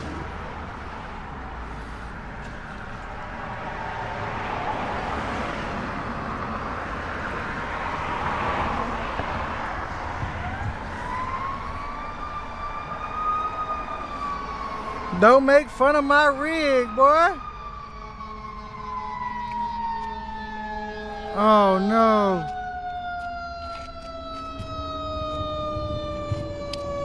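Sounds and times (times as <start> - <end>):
emergency vehicle siren: 0.0 - 27.0
road traffic: 0.0 - 27.0
vehicle passing: 0.0 - 27.0.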